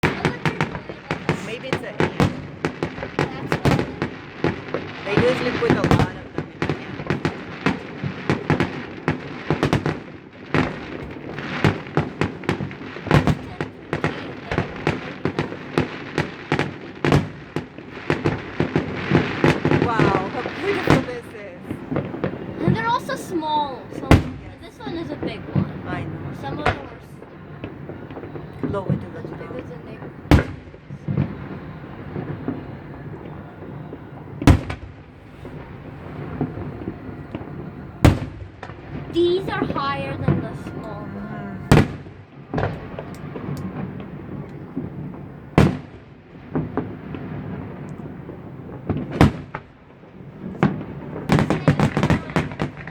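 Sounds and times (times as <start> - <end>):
fireworks bangs: 0.0 - 52.9
fireworks crackling: 0.0 - 52.9.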